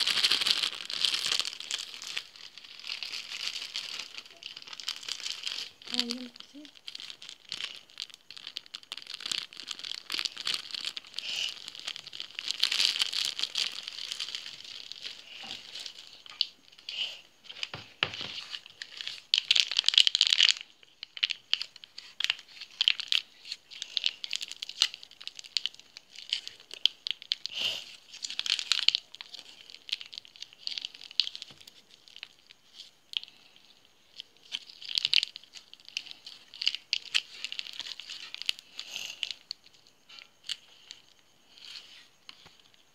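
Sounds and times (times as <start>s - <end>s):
plastic sachet crinkling: 0.0s - 42.9s.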